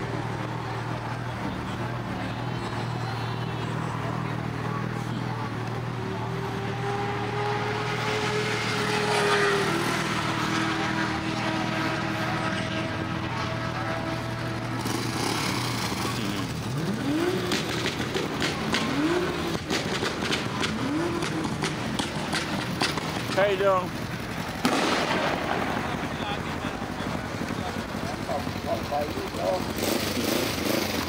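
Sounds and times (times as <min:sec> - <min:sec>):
engines revving: 0:00.0 - 0:31.0.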